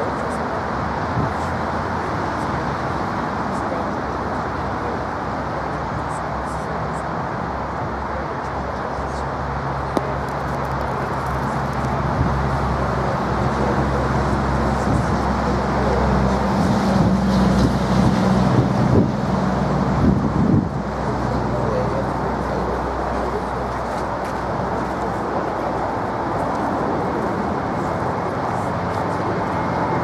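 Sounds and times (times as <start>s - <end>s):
low engine drone: 0.0s - 30.0s
road traffic hum: 0.0s - 30.0s.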